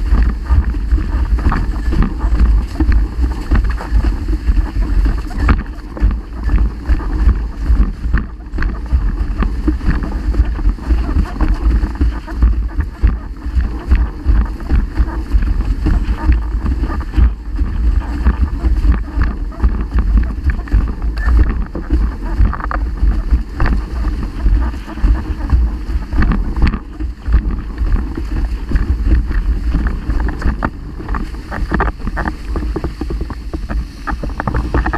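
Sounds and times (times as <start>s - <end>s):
water rushing and splashing: 0.0s - 34.9s
wind buffeting microphone: 0.0s - 34.9s.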